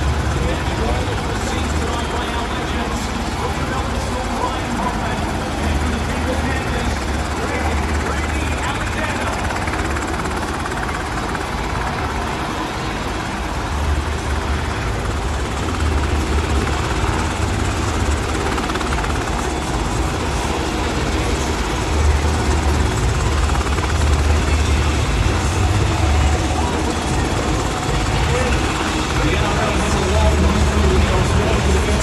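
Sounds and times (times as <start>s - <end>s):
helicopter engine noise: 0.0s - 32.0s
helicopter rotor throb: 0.0s - 32.0s.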